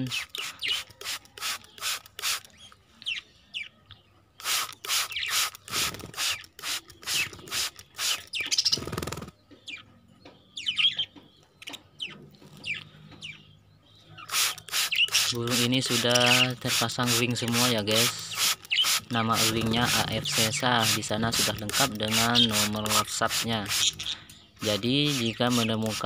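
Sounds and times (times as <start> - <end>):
budgerigars chirping and chattering: 0.0 - 26.0.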